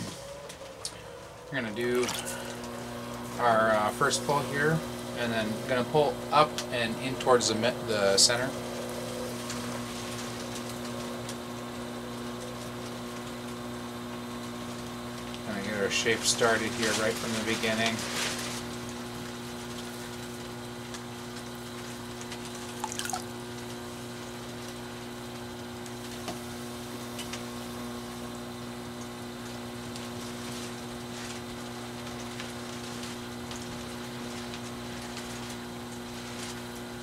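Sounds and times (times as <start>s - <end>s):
potter's wheel humming: 0.0s - 37.0s.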